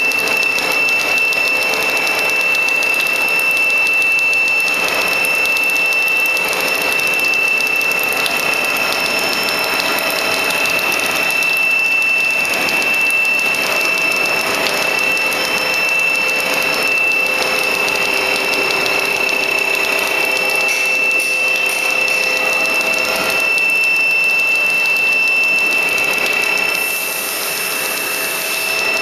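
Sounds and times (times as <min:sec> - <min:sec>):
constant high whine: 0:00.0 - 0:29.0
machine running: 0:00.0 - 0:29.0.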